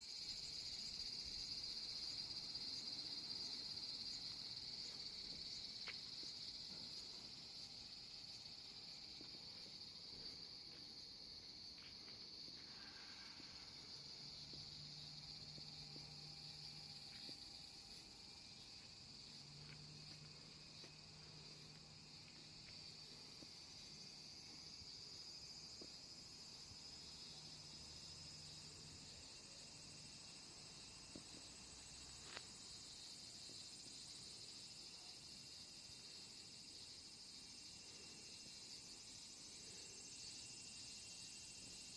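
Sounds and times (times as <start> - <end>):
cicadas chorus: 0.0 - 41.9.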